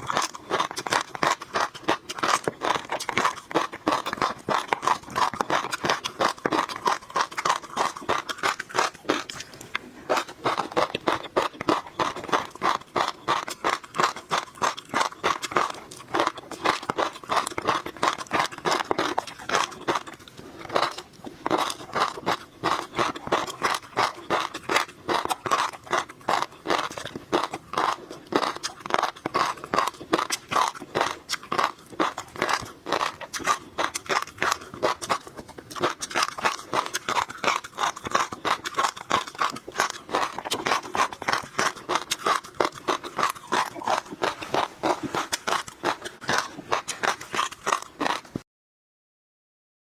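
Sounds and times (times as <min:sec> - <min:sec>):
chewing with small crunches: 0:00.0 - 0:48.4.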